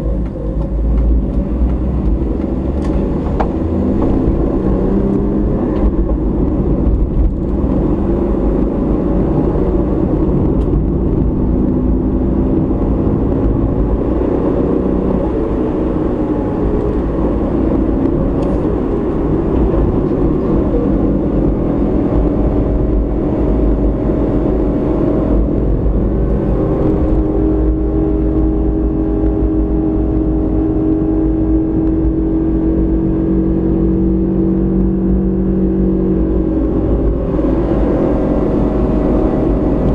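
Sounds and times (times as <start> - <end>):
car engine rumble from inside cabin: 0.0 - 39.9
road noise: 0.0 - 39.9.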